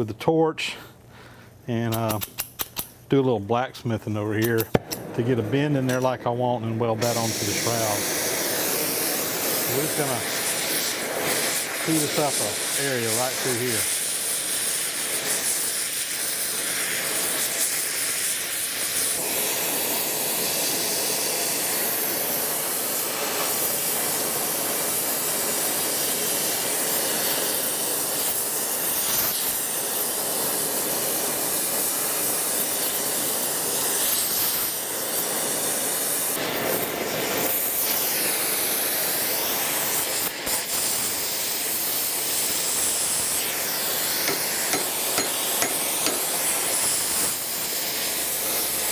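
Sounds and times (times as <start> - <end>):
torch flame hissing: 4.2 - 48.9.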